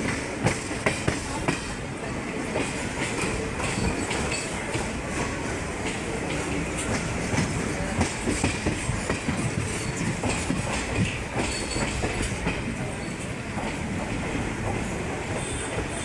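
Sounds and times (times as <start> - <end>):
train coach rumbling on track: 0.0 - 16.0
wheels clattering on rails: 0.0 - 16.0.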